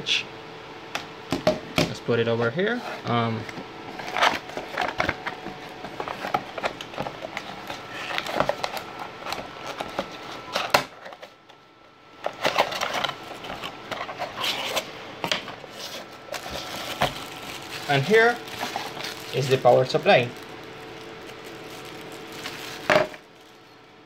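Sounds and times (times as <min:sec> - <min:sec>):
packaging rustling: 0:03.4 - 0:11.4, 0:12.2 - 0:23.9.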